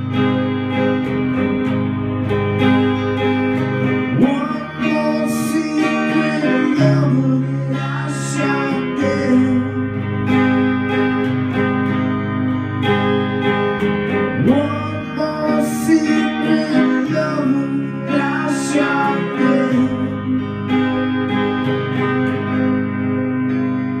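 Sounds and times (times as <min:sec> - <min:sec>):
clean electric guitar chords: 0:00.0 - 0:24.0.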